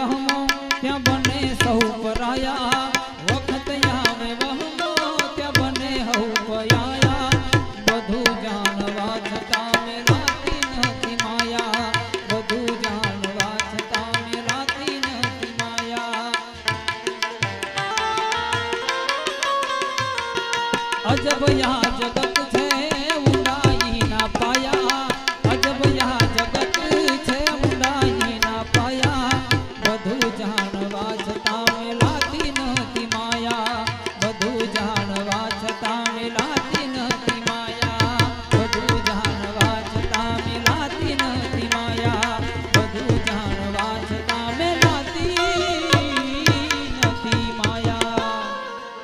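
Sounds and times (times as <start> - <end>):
harmonium melody: 0.0 - 49.0
tabla rhythm: 0.0 - 49.0.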